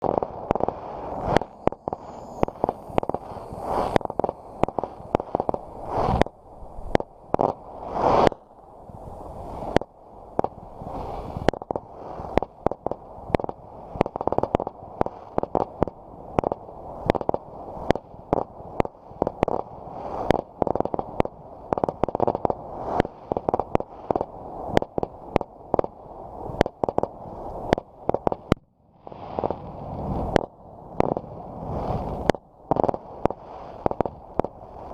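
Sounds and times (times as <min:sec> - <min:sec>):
fireworks bangs and cracks: 0:00.0 - 0:08.4, 0:09.5 - 0:34.9
steady fireworks rumble: 0:00.0 - 0:34.9.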